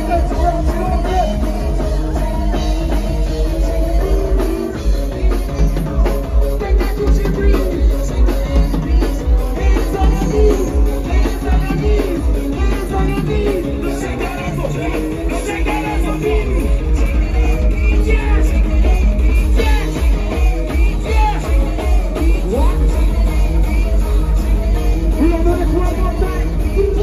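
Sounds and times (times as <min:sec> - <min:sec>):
heavy pulsing bass beat: 0:00.0 - 0:27.0
loud music with singing: 0:00.0 - 0:27.0.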